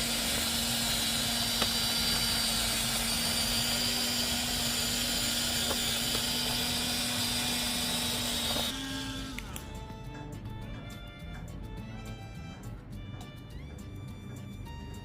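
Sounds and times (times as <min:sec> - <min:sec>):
small electric motor humming: 0:00.0 - 0:12.5.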